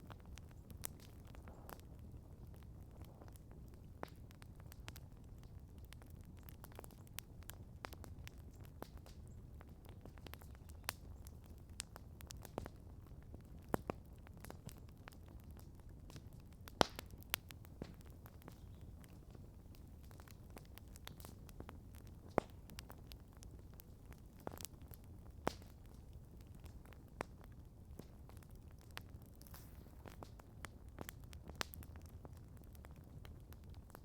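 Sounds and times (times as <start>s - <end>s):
campfire crackling: 0.0s - 34.0s
low steady rumble of fire: 0.0s - 34.0s.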